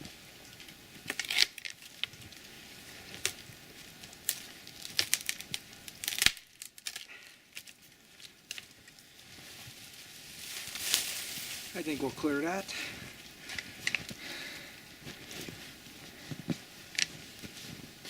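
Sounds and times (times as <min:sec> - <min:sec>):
brush crackling: 0:00.0 - 0:18.0
twigs cracking: 0:00.4 - 0:18.0.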